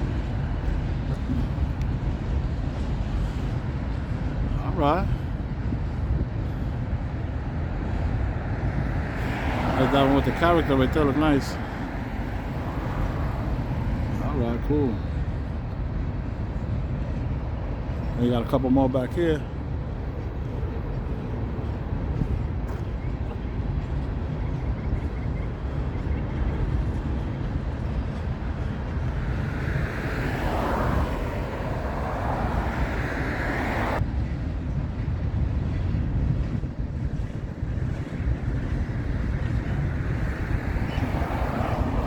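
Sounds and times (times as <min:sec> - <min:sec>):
freight train rumbling by: 0:00.0 - 0:42.0
wind buffeting microphone: 0:00.0 - 0:42.0.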